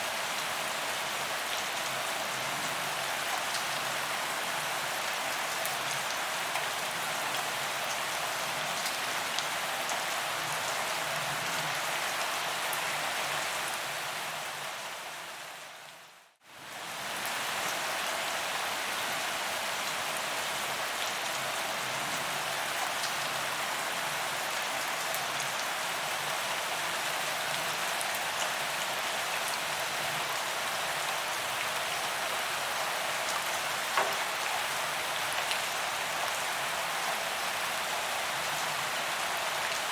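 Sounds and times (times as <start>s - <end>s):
rain on pavement: 0.1s - 14.8s, 16.7s - 39.9s.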